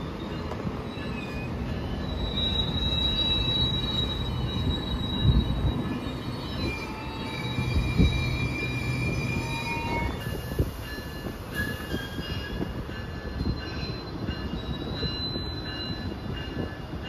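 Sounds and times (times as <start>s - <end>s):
wheel squeals: 0.0s - 10.7s, 11.3s - 12.6s, 13.4s - 16.2s
train low rumble: 0.0s - 17.0s.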